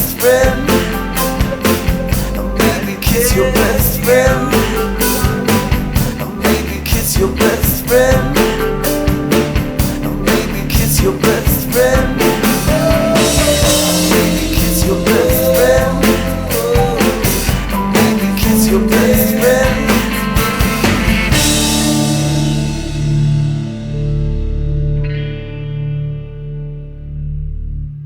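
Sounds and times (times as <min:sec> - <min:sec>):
sliding melody line: 0:00.0 - 0:23.7
drum kit: 0:00.0 - 0:25.1
guitars: 0:00.0 - 0:28.0
held guitar and bass notes: 0:00.0 - 0:28.0.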